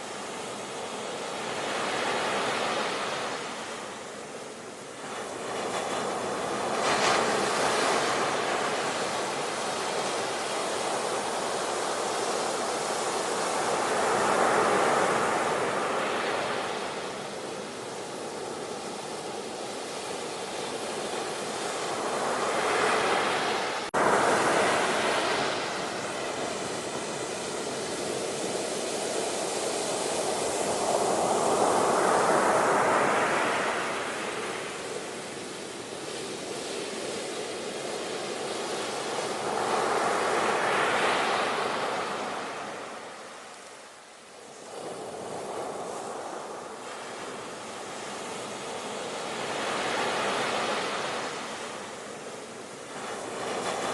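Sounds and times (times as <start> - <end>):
ocean waves rushing: 4.8 - 53.9.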